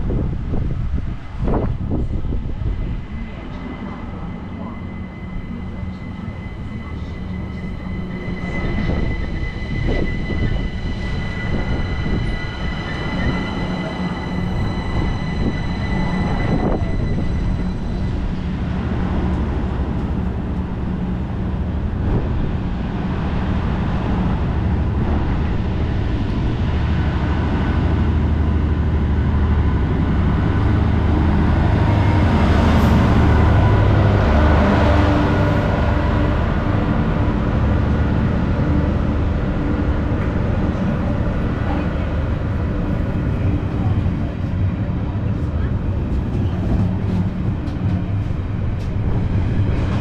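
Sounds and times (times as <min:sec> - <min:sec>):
diesel locomotive engine drone: 0:00.0 - 0:50.0
electric train high whine: 0:00.0 - 0:50.0.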